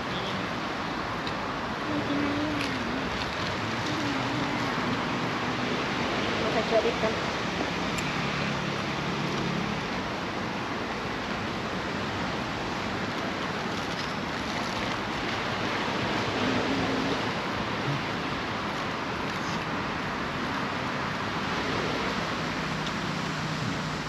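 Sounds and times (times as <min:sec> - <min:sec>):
waves washing onto beach: 0:00.0 - 0:24.0.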